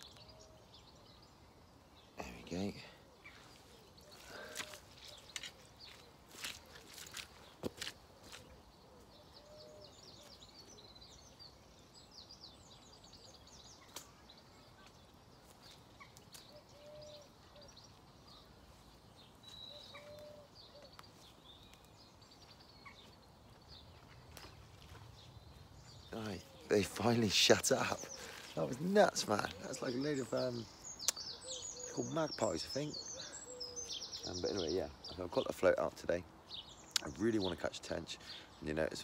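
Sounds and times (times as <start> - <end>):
birds chattering harshly: 0.0 - 39.0.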